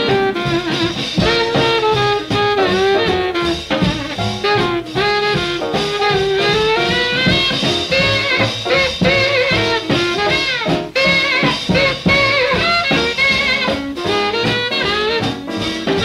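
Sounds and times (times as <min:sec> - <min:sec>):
alto saxophone melody: 0:00.0 - 0:16.0
jazz combo playing: 0:00.0 - 0:16.0.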